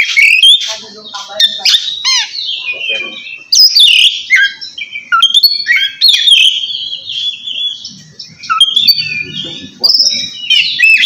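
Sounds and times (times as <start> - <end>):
songbird whistling and chirping: 0.0 - 11.0.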